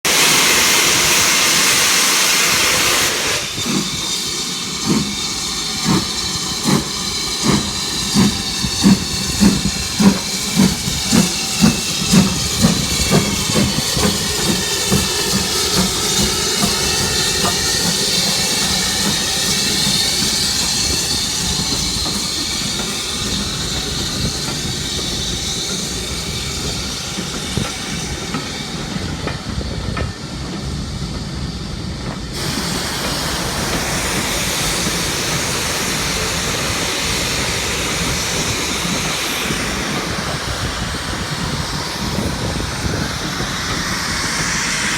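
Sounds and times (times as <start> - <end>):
steam hissing: 0.0 - 44.9
steam locomotive chuffing: 0.0 - 44.9
train rumble: 0.0 - 44.9.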